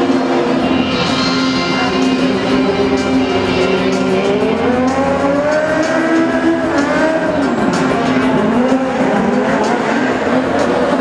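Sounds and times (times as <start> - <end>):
motorcycle engine revving hard: 0.0 - 11.0.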